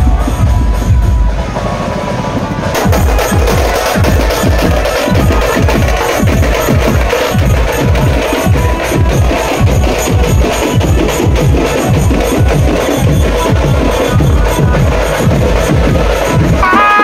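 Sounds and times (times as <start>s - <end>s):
loud fast drumming: 0.0s - 17.0s.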